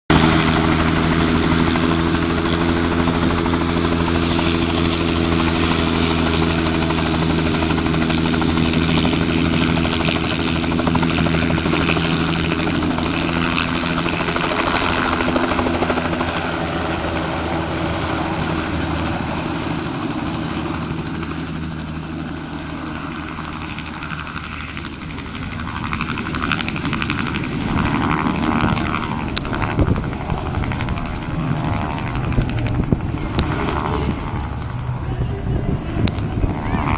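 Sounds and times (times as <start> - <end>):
helicopter rotor and turbine: 0.1 - 36.9.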